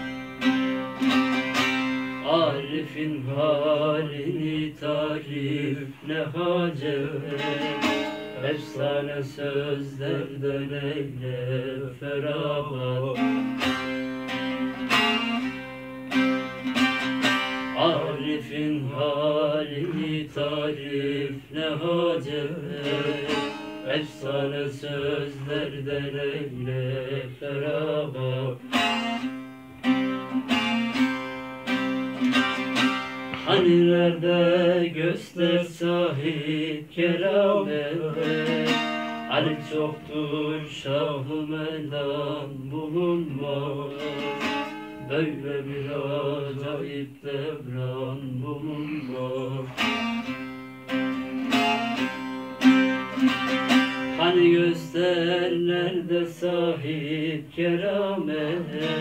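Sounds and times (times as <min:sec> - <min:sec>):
lutes playing folk melody: 0:00.0 - 0:59.0.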